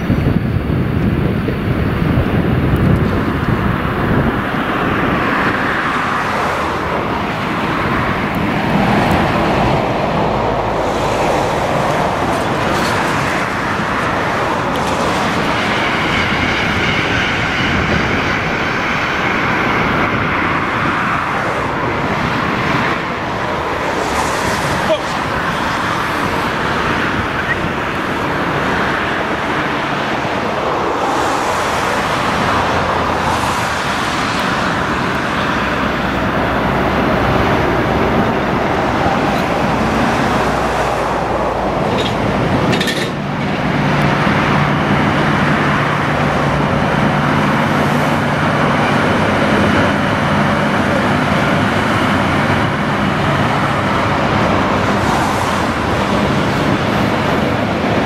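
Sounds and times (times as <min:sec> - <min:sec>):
freight train wheels rumbling: 0:00.0 - 0:58.0
low engine hum: 0:00.0 - 0:58.0.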